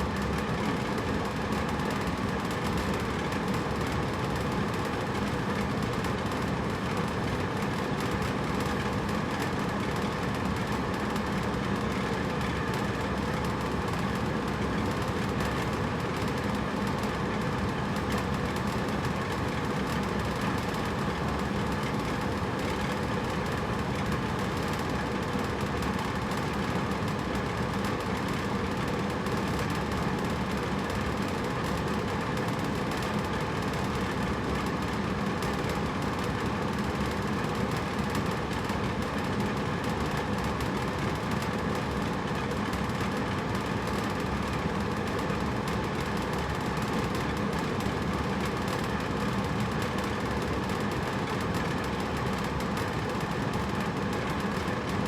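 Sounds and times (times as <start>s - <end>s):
air conditioner running: 0.0s - 55.0s.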